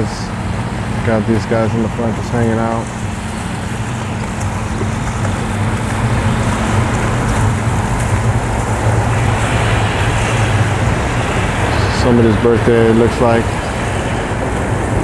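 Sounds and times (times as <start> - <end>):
boat engine drone: 0.0 - 15.0
water wash: 0.0 - 15.0.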